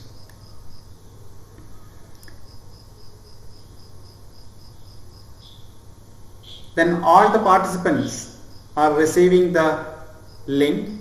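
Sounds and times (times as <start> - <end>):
cricket chirping: 0.0 - 11.0
low steady hum: 0.0 - 11.0.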